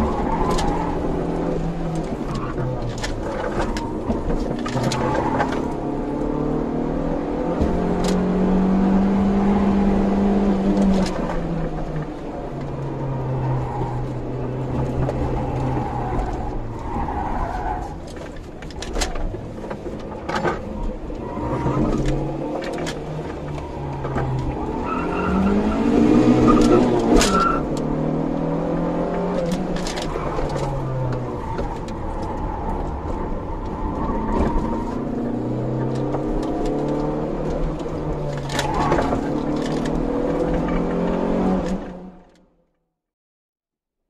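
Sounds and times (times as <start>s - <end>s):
car engine under racing load: 0.0s - 42.5s.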